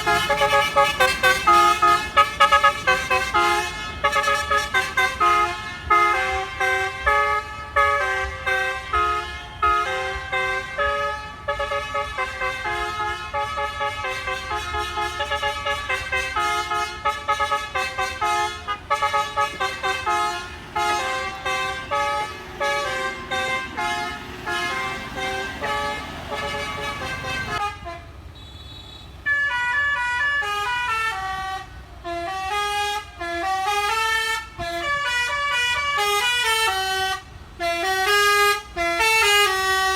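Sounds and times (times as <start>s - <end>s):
musical air horn melody: 0.0s - 39.9s.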